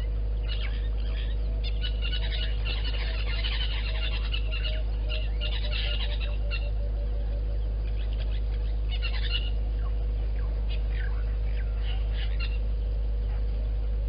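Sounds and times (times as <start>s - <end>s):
low hooting bird calls: 0.0s - 14.0s
small birds chirping: 0.0s - 14.0s
steady low hum: 0.0s - 14.0s.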